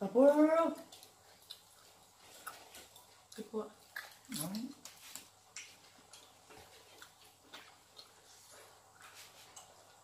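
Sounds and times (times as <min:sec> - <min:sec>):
eating clicks and smacks: 0:00.8 - 0:10.0.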